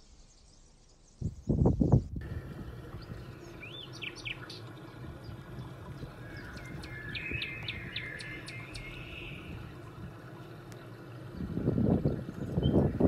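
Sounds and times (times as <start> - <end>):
songbirds chirping: 0.0 - 13.0
low background hum: 0.2 - 13.0.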